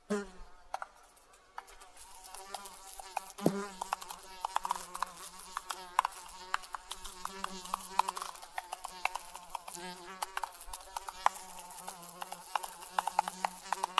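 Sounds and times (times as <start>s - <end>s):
insect buzzing: 0.0s - 13.9s.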